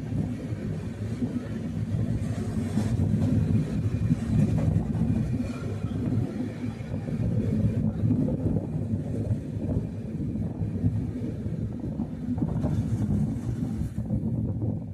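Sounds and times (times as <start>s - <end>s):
train rumbling on tracks: 0.0s - 14.9s.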